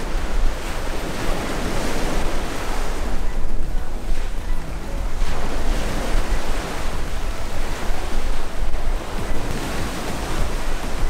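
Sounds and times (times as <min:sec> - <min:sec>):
surf breaking on beach: 0:00.0 - 0:11.0
wind rumbling on microphone: 0:00.0 - 0:11.0.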